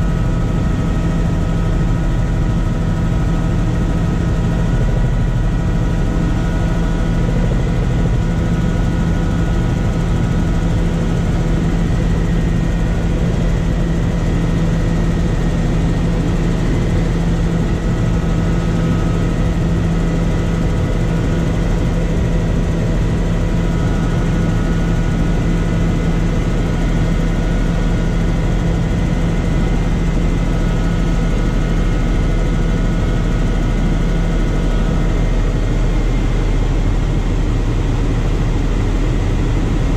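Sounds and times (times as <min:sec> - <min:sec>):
helicopter engine drone: 0:00.0 - 0:39.9.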